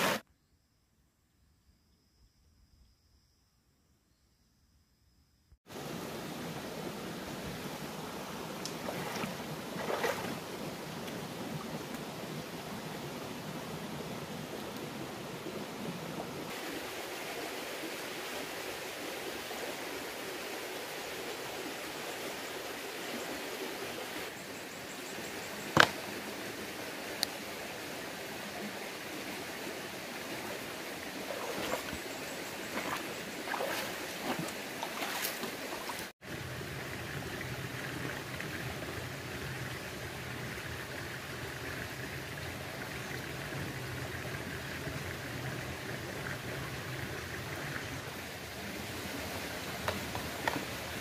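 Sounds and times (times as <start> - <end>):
rocky stream flowing: 5.7 - 24.4, 25.0 - 51.0.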